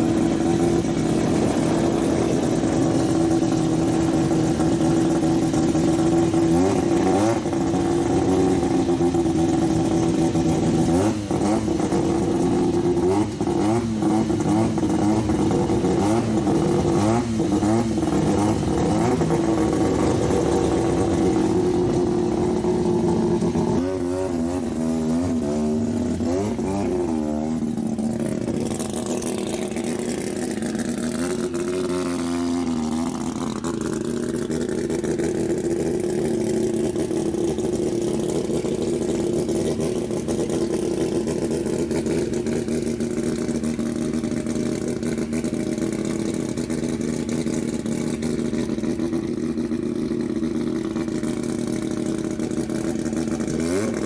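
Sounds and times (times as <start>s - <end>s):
rotary engine idling with throttle blips: 0.0s - 54.0s.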